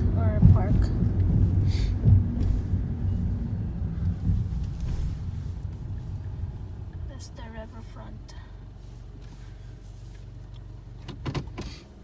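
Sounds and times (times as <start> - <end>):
low rumble: 0.0 - 9.9.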